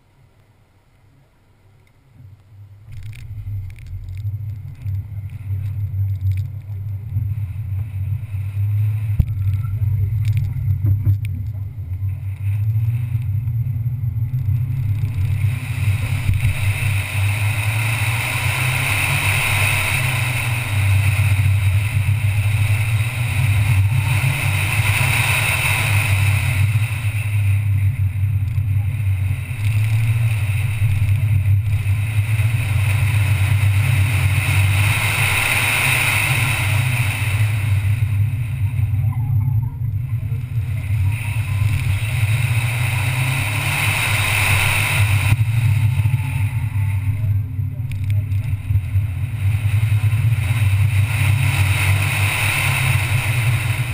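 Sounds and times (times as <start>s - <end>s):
car engine driven hard: 2.0s - 53.9s.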